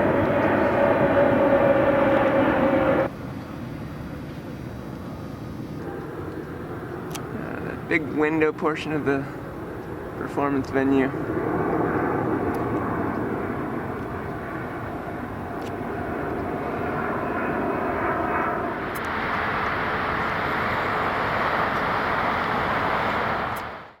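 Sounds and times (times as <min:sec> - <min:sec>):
jet airliner flying overhead: 0:00.0 - 0:24.0.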